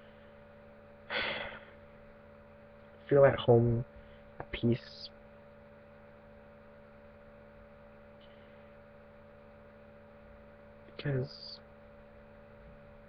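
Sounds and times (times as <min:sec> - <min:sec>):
faint electrical hum and hiss: 0:00.0 - 0:13.0.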